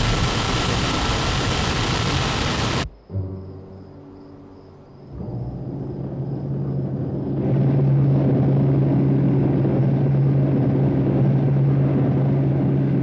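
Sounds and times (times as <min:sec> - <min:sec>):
rocket engine rumble: 0:00.0 - 0:03.0, 0:05.3 - 0:13.0.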